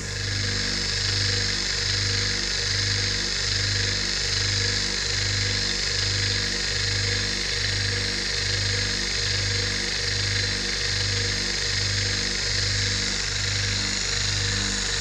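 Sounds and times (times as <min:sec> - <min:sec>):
vacuum pump pulsing hum: 0:00.0 - 0:15.0.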